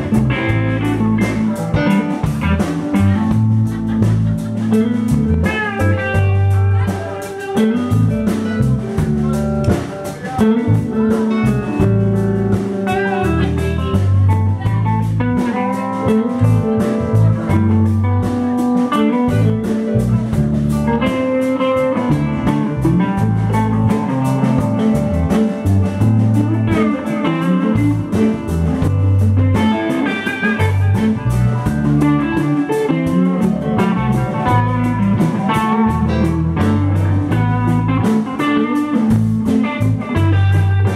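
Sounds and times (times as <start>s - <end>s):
drum kit: 0.0s - 40.9s
electric guitars: 0.0s - 40.9s
keyboard: 0.0s - 40.9s
low bass line: 0.0s - 40.9s.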